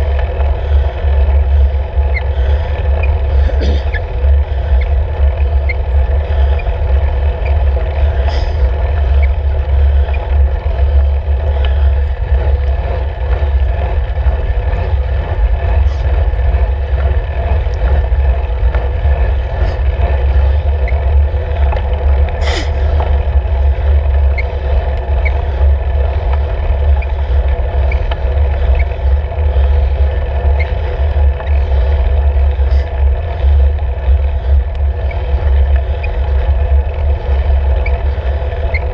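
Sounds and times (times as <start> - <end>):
bike clicks and rattles: 0.0 - 38.9
faint hum: 0.0 - 38.9
road vibration rumble: 0.0 - 38.9.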